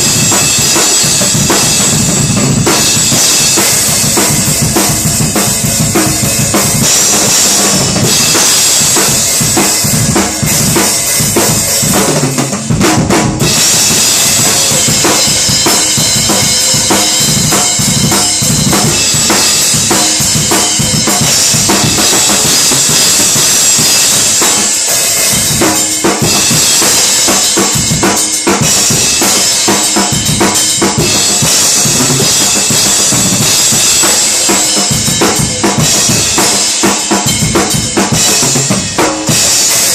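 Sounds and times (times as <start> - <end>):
snare and bass drum strokes: 0.0 - 39.9.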